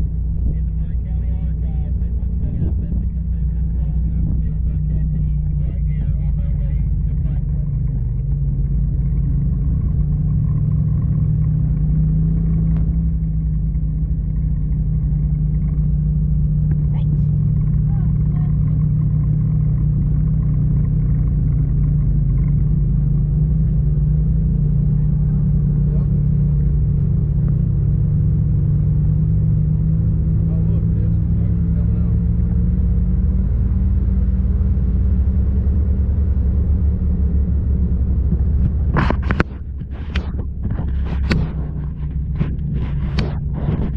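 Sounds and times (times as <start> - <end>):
utility vehicle engine droning: 0.0 - 43.9.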